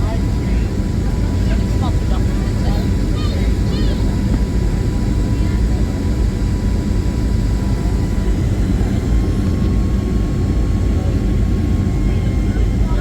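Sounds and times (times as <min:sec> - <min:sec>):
faint steady whine: 0:00.0 - 0:13.0
jet airliner cabin roar: 0:00.0 - 0:13.0.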